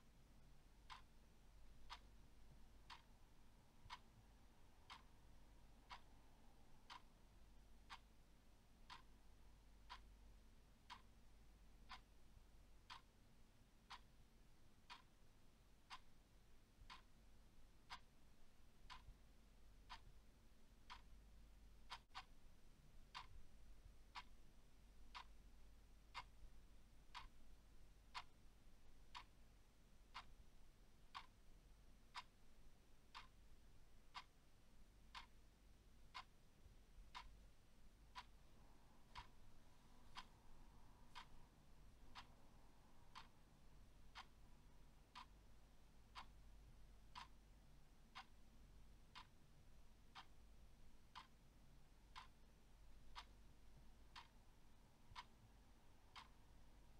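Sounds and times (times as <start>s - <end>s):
clock ticking: 0.0s - 56.9s
faint low hum: 0.0s - 56.9s.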